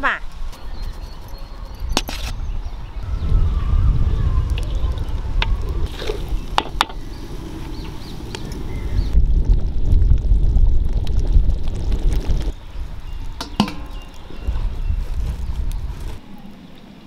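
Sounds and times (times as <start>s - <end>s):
wind buffeting microphone: 0.2s - 16.2s.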